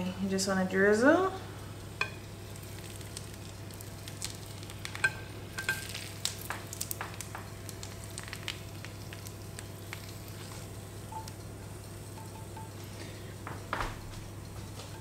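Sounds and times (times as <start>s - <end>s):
butter sizzling with crackles: 0.8s - 15.0s.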